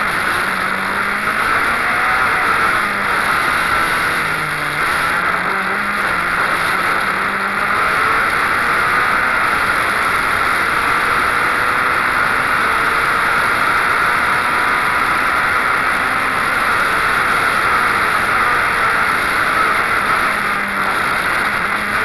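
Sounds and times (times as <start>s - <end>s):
faint racing engine: 0.0s - 22.0s.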